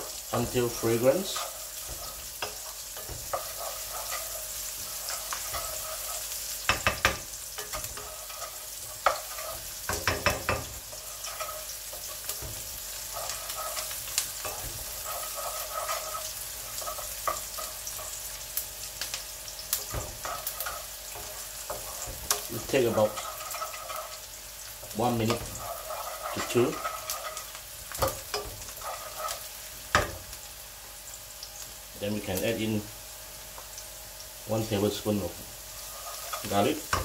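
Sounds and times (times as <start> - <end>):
shallots sizzling in hot oil: 0.0 - 37.0
wooden spatula scraping pan: 0.1 - 18.4, 19.5 - 30.3, 35.8 - 37.0.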